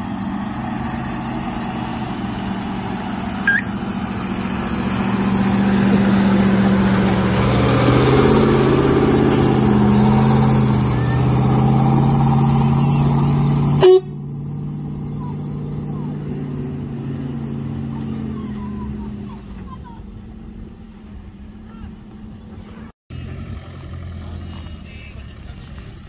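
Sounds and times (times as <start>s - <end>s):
truck engine driving past: 0.0s - 26.0s.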